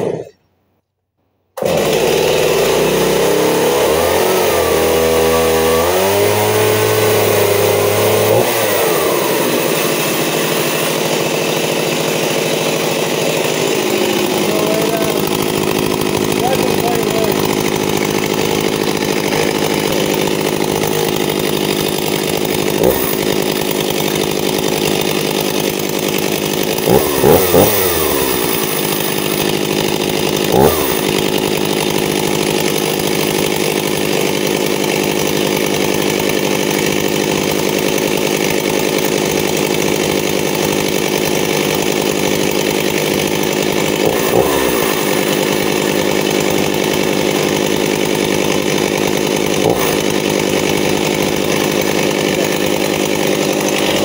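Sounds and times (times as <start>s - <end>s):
chainsaw idling: 0.0s - 0.4s, 1.6s - 54.0s
chainsaw throttle revs: 0.0s - 0.4s, 1.6s - 54.0s.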